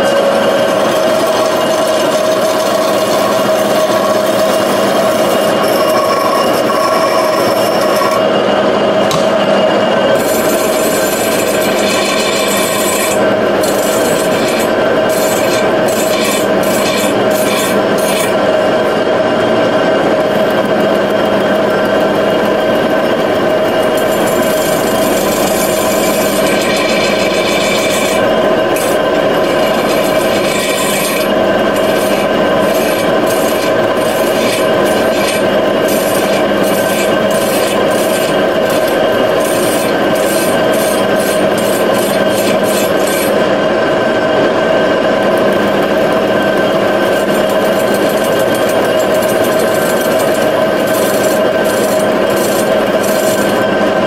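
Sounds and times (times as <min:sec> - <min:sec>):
cutting tool rasping scrape: 0:00.0 - 0:08.3, 0:10.0 - 0:18.9, 0:20.3 - 0:43.5, 0:45.4 - 0:53.8
metal lathe humming: 0:00.0 - 0:54.0.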